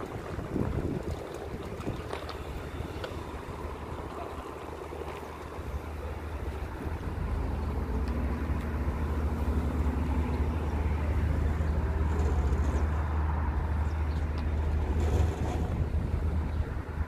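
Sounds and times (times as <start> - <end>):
faint traffic: 0.0 - 17.0
wind buffeting microphone: 0.0 - 17.0.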